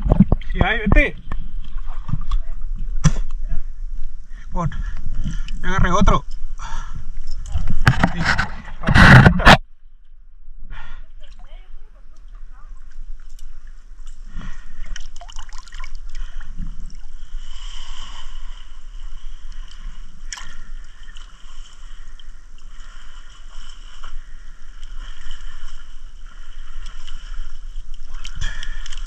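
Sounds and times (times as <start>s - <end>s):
water sloshing and gurgling: 0.0s - 9.6s, 11.1s - 29.0s
low hum: 0.0s - 29.0s.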